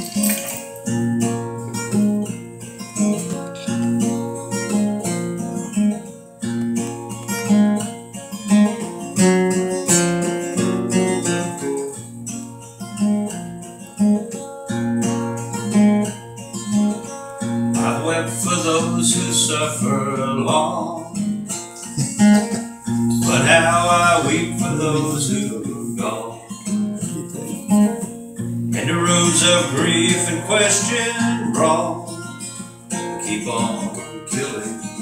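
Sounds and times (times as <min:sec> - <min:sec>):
acoustic guitar strummed and picked: 0:00.0 - 0:35.0.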